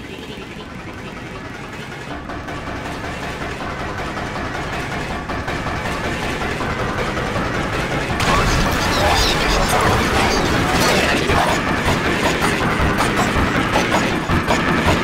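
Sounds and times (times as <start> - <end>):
jumbled layered soundtrack noise: 0.0 - 15.0.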